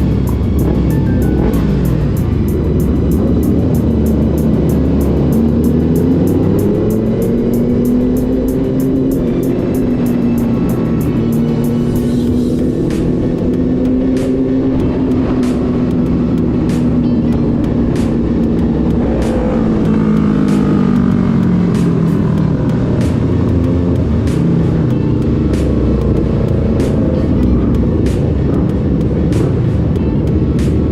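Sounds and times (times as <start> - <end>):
motorcycle engine cruising: 0.0 - 30.9
music with steady beat: 0.0 - 30.9.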